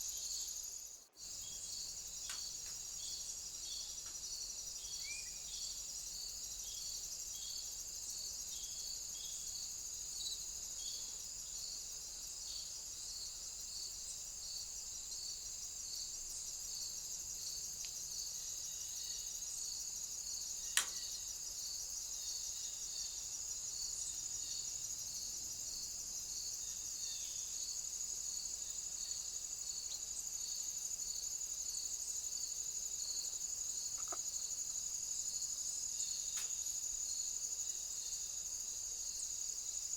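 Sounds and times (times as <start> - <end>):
insect pulsed chirps: 0.0 - 39.9
insect steady high trill: 0.0 - 39.9.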